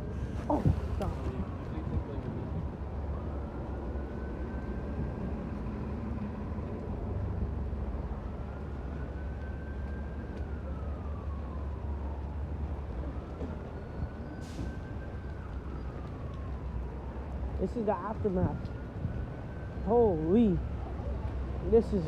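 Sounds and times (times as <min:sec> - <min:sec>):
emergency vehicle siren wailing: 0:00.0 - 0:22.0.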